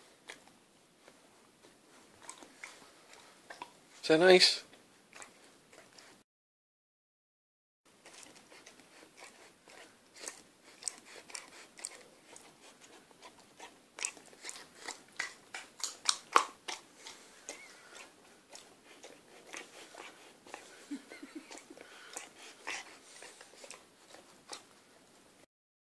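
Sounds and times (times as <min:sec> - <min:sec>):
dog chewing with jaw smacks: 0:00.2 - 0:04.0, 0:04.7 - 0:06.2, 0:07.9 - 0:25.2.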